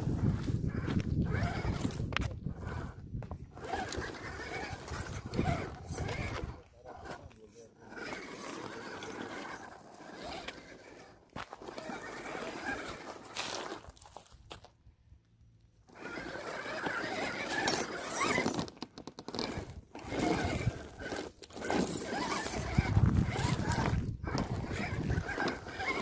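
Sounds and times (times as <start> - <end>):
toy car motor whining: 0.1 - 14.2, 15.8 - 26.0
tyres scrabbling over rock: 0.2 - 14.7, 15.9 - 26.0.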